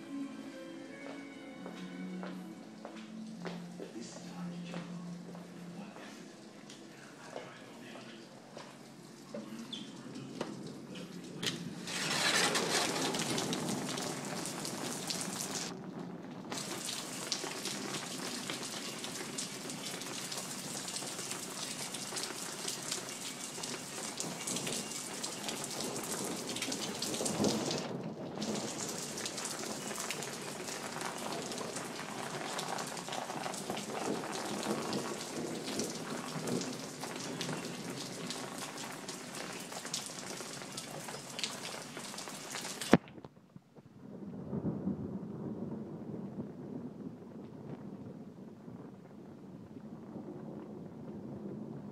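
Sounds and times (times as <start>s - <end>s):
heavy rain pouring: 0.0s - 43.1s, 44.0s - 51.9s.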